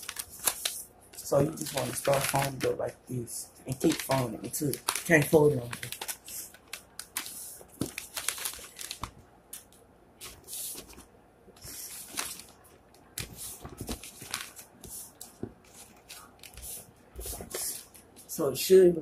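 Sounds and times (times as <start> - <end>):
paper folding and rustling: 0.0 - 2.8, 3.7 - 18.3.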